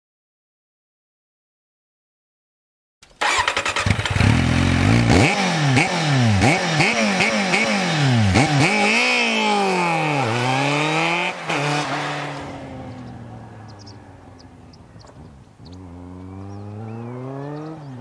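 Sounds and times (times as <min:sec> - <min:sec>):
motorcycle engine revving: 0:03.0 - 0:18.0.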